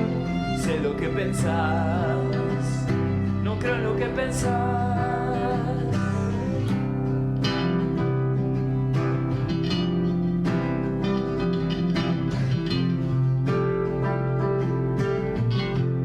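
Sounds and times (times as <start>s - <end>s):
acoustic guitars strumming: 0.0s - 16.0s.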